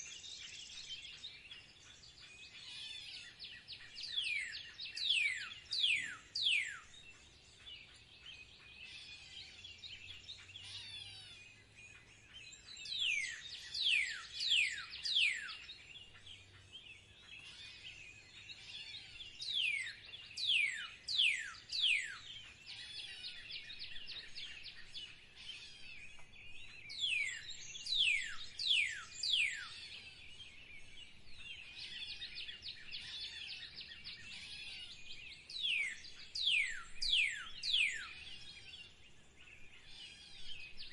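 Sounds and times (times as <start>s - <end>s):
birds twittering: 0.0s - 40.9s.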